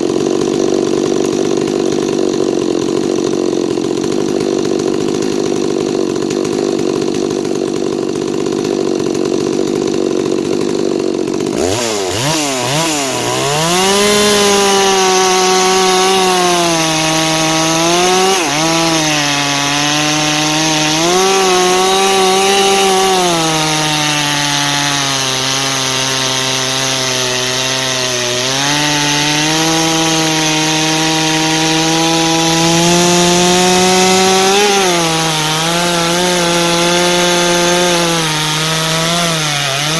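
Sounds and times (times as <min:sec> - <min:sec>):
chainsaw cutting log: 0:00.0 - 0:39.9
chainsaw running: 0:00.0 - 0:39.9.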